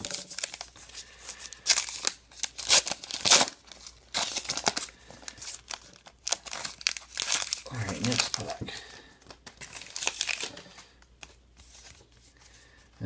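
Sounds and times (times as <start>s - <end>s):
foil wrapper crinkling and ripping: 0.0s - 12.1s.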